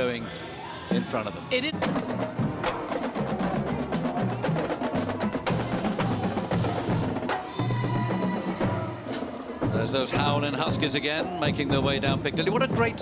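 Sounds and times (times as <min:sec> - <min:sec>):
snare and bass drums beating: 0:01.0 - 0:13.0.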